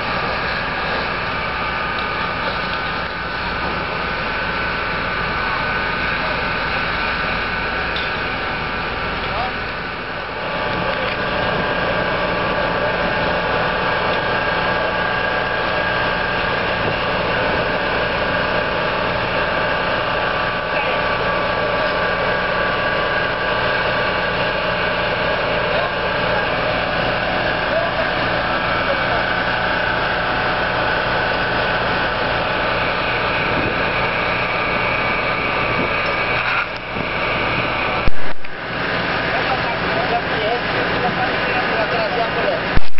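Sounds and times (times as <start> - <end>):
fire engine drone: 0.0 - 42.9.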